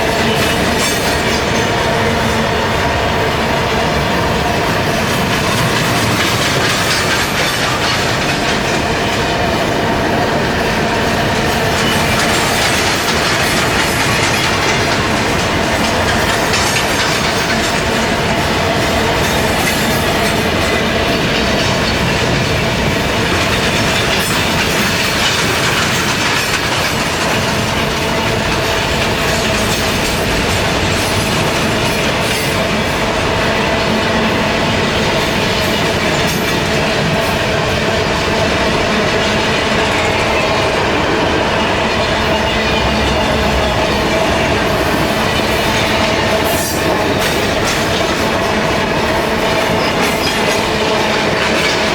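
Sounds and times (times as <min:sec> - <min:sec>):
wagons clattering over rail joints: 0:00.0 - 0:03.0, 0:04.3 - 0:51.9
wheels squealing on rails: 0:00.0 - 0:51.9.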